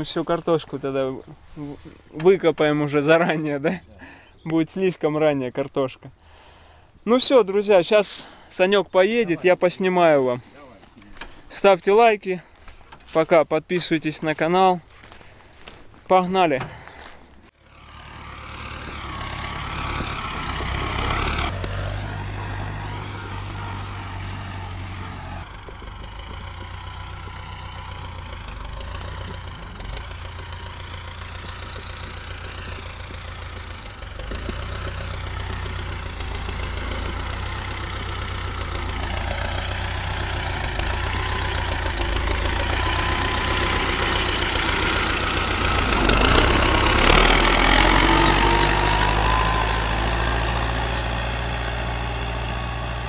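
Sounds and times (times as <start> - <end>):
tractor engine under load: 0.0 - 5.0, 6.9 - 53.0.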